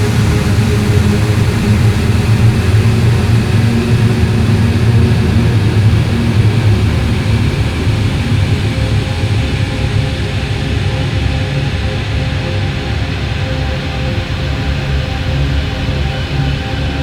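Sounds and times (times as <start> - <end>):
droning shoegaze music: 0.0 - 17.0.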